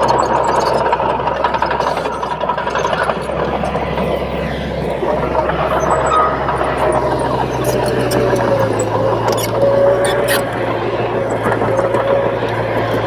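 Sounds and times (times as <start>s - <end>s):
bulldozer diesel engine: 0.0s - 13.0s
metallic track clanking: 0.0s - 13.0s.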